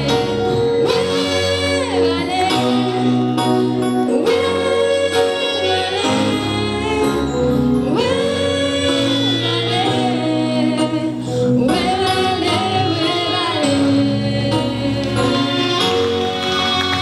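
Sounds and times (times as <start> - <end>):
instrumental accompaniment: 0.0 - 17.0
voices singing gospel: 0.0 - 17.0.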